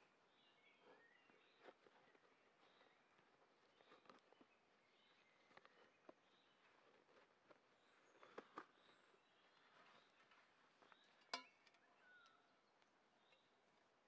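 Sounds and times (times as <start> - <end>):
quiet forest ambience: 0.0 - 14.0.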